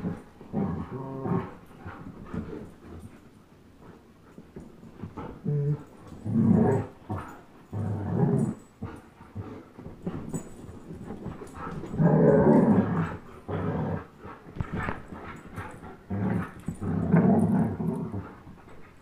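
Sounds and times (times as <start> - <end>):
dogs play growling: 0.0 - 19.0.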